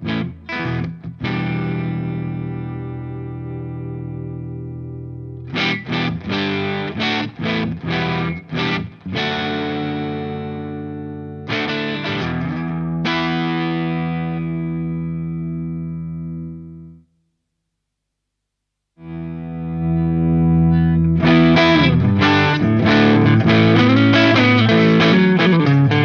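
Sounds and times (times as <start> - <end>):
distorted electric guitar chords: 0.0 - 17.0, 19.0 - 26.0.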